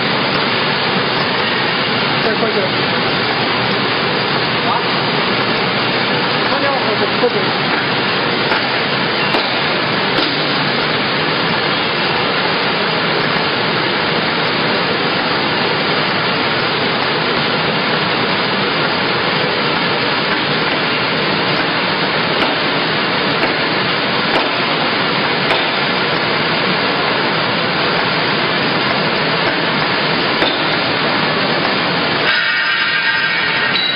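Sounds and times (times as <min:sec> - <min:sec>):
envelope machine running: 0:00.0 - 0:32.3.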